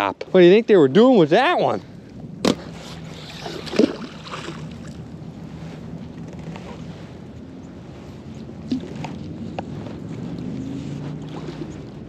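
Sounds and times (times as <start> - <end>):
low steady hum: 0.0 - 12.0
wind on microphone: 0.0 - 12.0.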